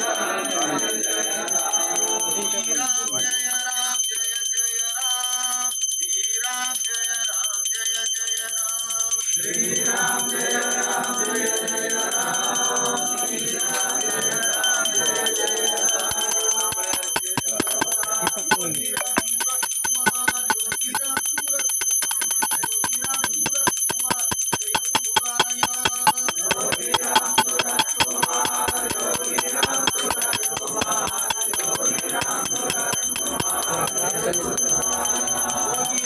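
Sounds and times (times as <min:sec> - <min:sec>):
hand bell ringing rapidly: 0:00.1 - 0:36.0.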